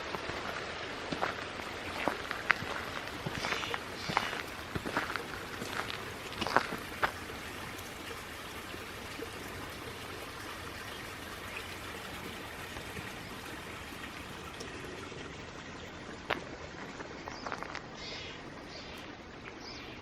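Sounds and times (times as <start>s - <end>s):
water splashing into ditch: 0.0s - 17.7s.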